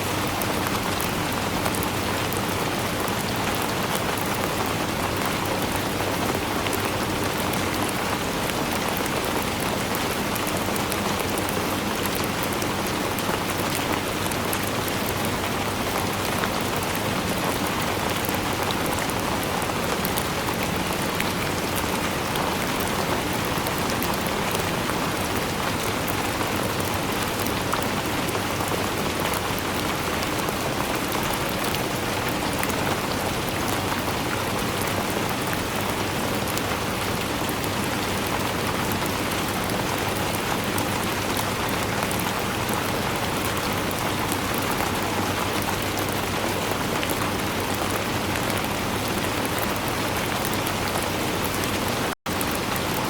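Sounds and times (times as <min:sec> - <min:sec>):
rain pattering on a surface: 0:00.0 - 0:53.0.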